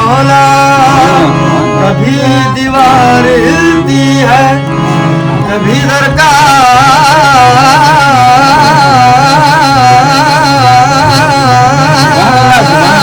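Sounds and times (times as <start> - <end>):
low rhythmic accompaniment: 0.0 - 13.0.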